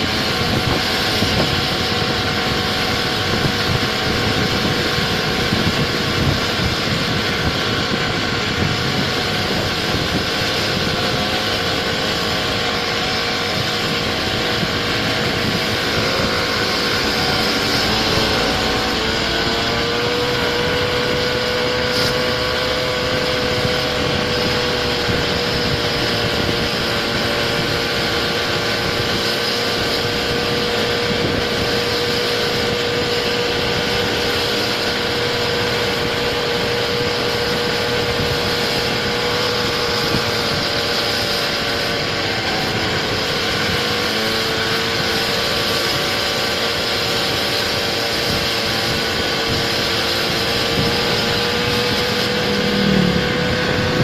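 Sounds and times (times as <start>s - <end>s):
constant rushing noise: 0.0s - 54.0s
scooter engine running: 0.0s - 54.0s.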